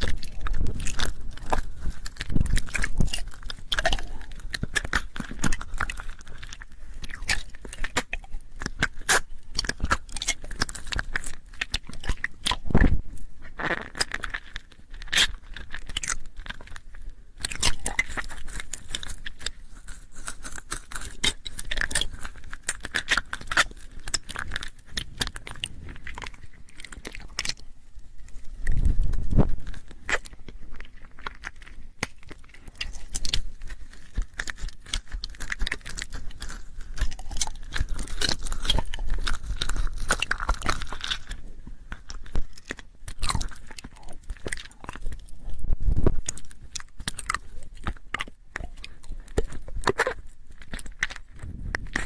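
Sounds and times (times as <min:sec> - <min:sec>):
mouth clicks and smacks: 0:00.0 - 0:52.0.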